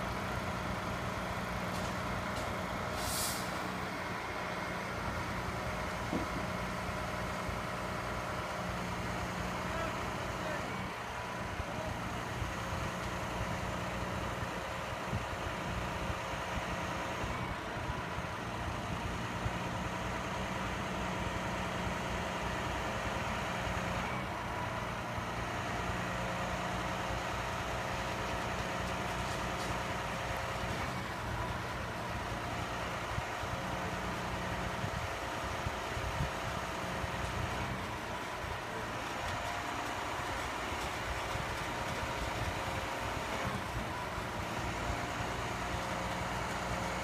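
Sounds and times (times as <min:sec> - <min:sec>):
heavy diesel engine running: 0:00.0 - 0:47.0.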